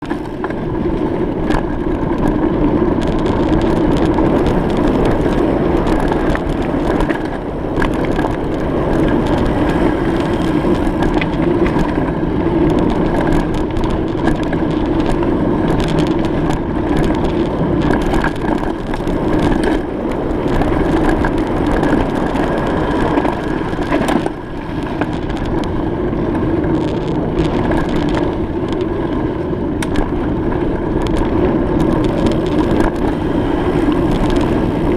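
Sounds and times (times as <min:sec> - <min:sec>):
bicycle rolling over rough surface: 0:00.0 - 0:34.9.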